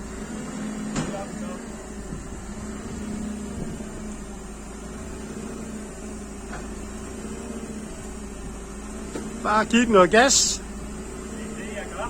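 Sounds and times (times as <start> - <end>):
forklift running: 0.0 - 12.0.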